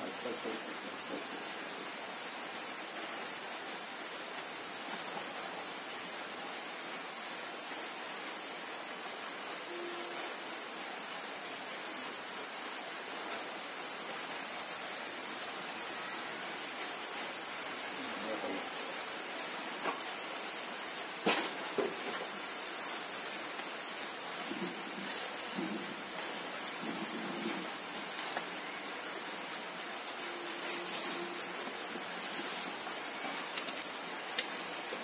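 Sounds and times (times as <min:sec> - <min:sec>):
crickets trilling: 0:00.0 - 0:35.0
faint hiss: 0:00.0 - 0:35.0.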